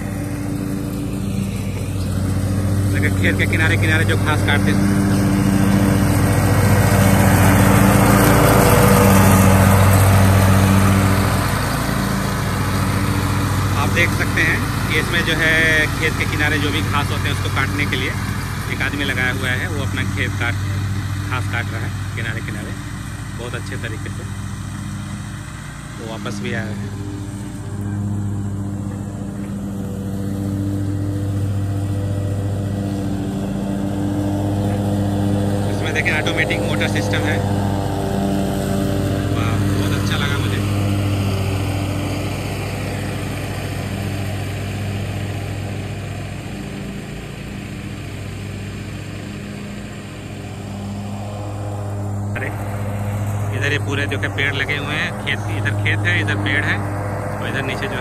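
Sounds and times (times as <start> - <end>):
riding mower cutting grass: 0.0 - 58.0.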